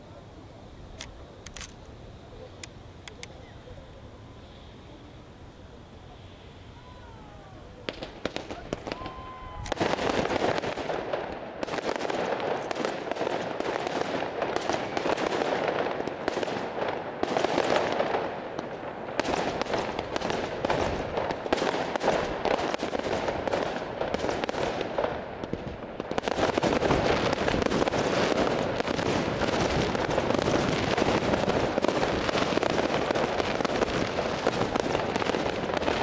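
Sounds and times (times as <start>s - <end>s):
fireworks crackling and popping: 0.0s - 36.0s.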